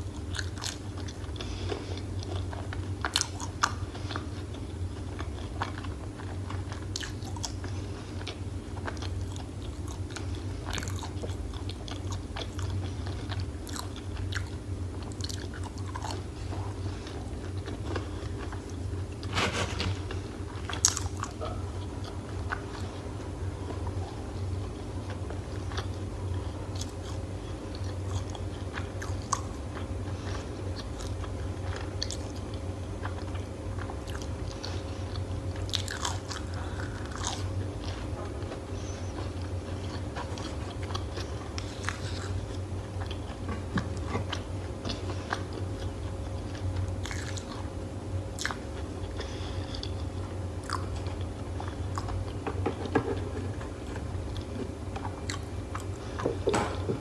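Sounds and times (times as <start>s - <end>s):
crunchy food chewing: 0.0s - 57.0s.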